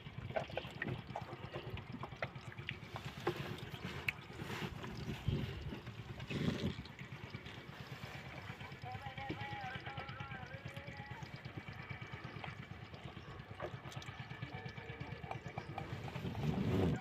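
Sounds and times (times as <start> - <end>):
water sloshing around boat: 0.0 - 17.0.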